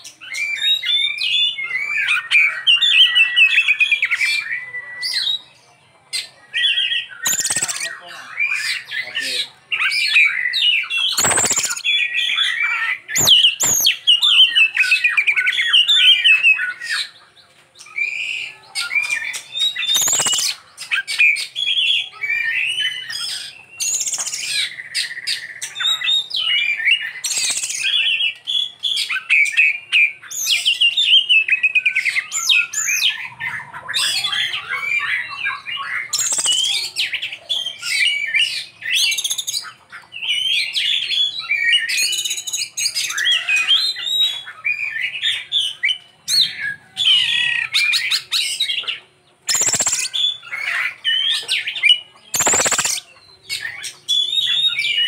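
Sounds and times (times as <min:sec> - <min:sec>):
songbird singing chirps and whistles: 0:00.0 - 0:09.2, 0:09.8 - 0:55.0.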